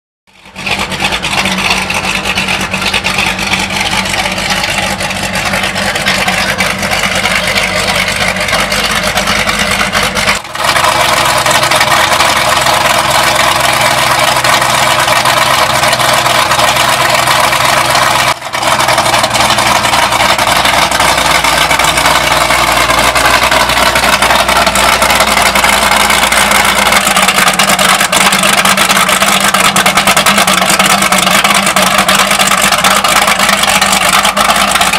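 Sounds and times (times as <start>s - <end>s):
boat engines running: 0.3s - 34.9s.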